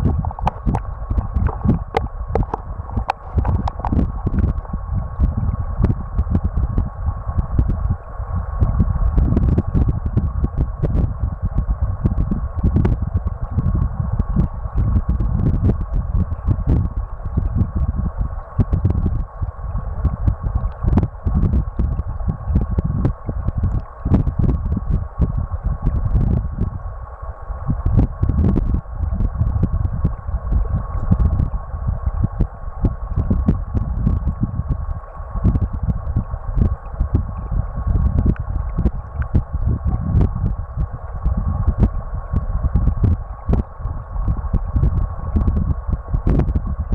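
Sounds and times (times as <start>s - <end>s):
muffled underwater river rumble: 0.0s - 46.9s
thin steady whine: 0.0s - 46.9s.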